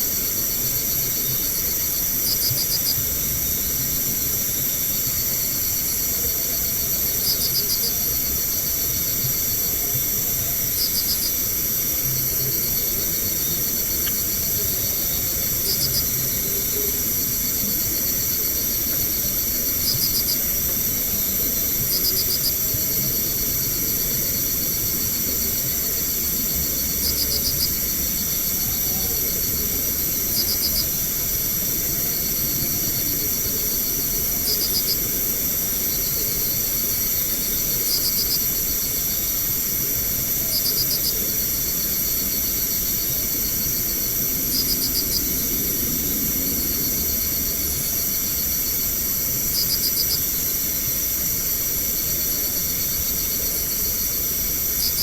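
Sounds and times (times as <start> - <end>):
constant hiss and low rumble: 0.0 - 55.0
insect chorus drone: 0.0 - 55.0.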